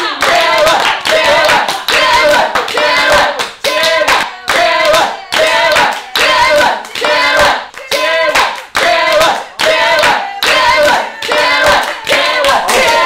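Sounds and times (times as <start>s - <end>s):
group clapping in rhythm: 0.0s - 13.0s
people chanting and shouting: 0.0s - 13.0s.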